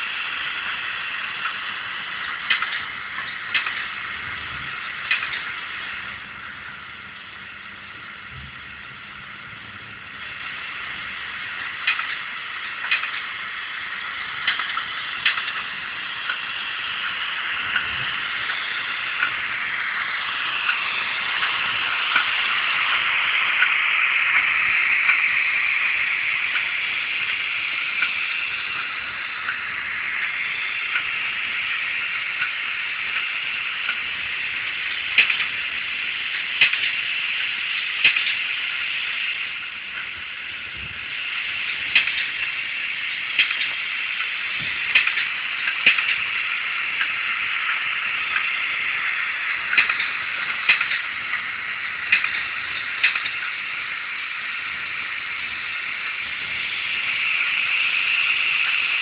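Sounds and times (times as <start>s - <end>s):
electric locomotive running sounds: 0.0s - 59.0s.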